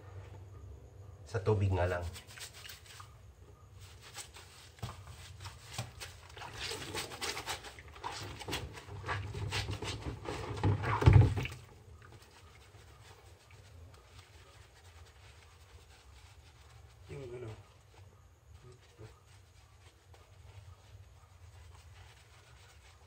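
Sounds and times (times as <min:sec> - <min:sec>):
sponge squelching and water sloshing: 0:01.8 - 0:03.2, 0:03.8 - 0:23.0
sponge rubbing: 0:01.8 - 0:23.0.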